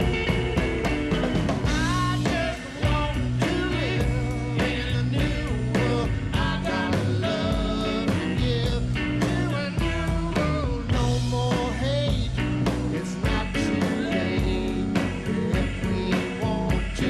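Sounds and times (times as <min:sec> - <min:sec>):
double bass: 0:00.0 - 0:17.0
drums: 0:00.0 - 0:17.0
electric guitar: 0:00.0 - 0:17.0.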